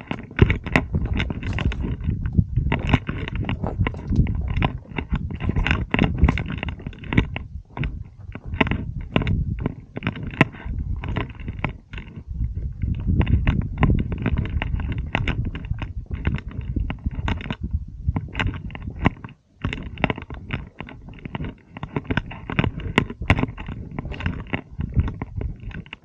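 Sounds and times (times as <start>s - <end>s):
footsteps crunching on stones: 0.0s - 26.0s
low microphone rumble: 0.0s - 26.0s.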